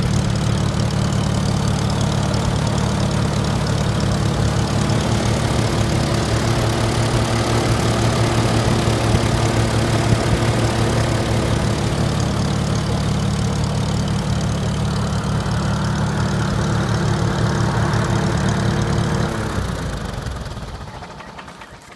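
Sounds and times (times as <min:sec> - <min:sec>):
tractor engine idling: 0:00.0 - 0:21.9.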